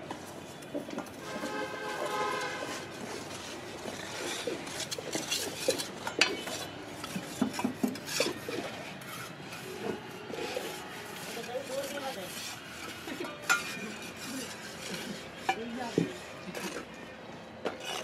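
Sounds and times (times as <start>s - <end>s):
metal tools clinking and scraping: 3.1s - 18.0s.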